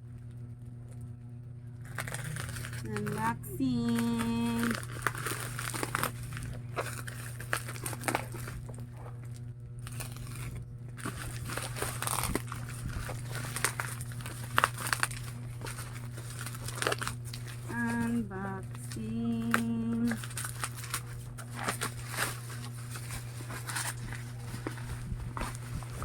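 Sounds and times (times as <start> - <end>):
steady low hum: 0.0 - 26.0
packaging crinkling: 1.7 - 26.0.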